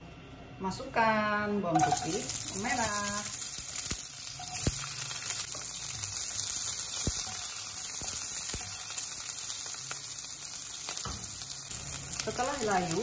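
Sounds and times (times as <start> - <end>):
garlic sizzling in hot oil: 1.7 - 13.0.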